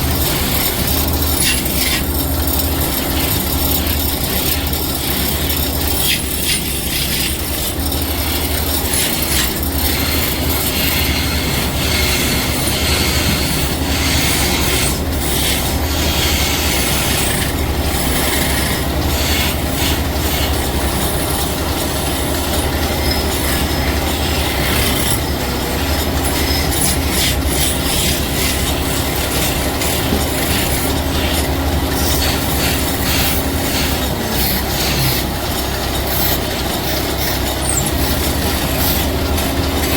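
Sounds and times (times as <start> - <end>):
scraping and rubbing: 0.0 - 39.9
woodworking machine humming: 0.0 - 39.9.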